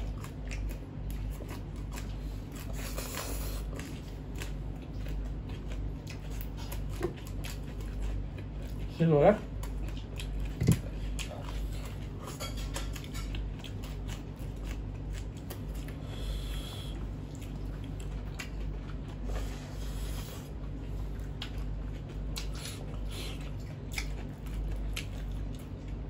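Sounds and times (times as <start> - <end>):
steady low hum: 0.0 - 26.0
wet chewing and mouth clicks: 0.0 - 26.0.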